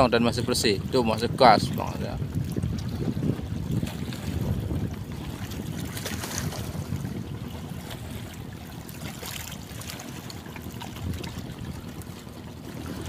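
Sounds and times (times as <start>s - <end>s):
small waves lapping: 0.0s - 13.0s.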